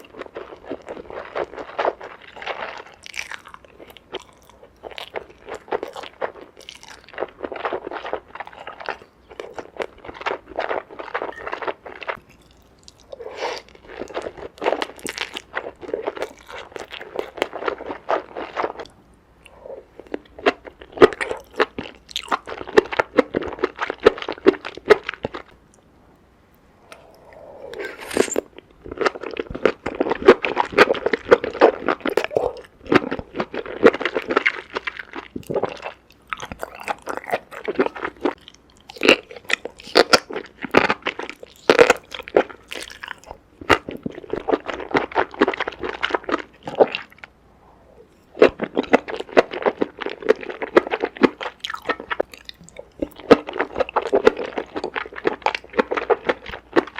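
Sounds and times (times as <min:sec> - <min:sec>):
crunchy chewing: 0:00.0 - 0:25.6, 0:26.8 - 0:47.3, 0:48.1 - 0:56.9.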